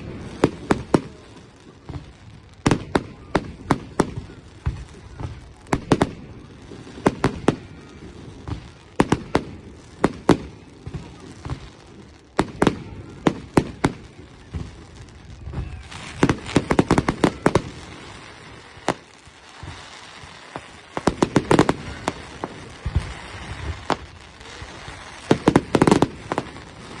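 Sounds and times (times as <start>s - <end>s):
fireworks bangs and cracks: 0.0s - 27.0s.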